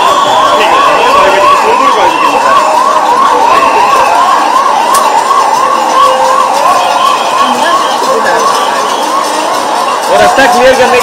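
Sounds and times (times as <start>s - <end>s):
ambulance siren yelping: 0.0s - 11.0s
large crowd noise: 0.0s - 11.0s.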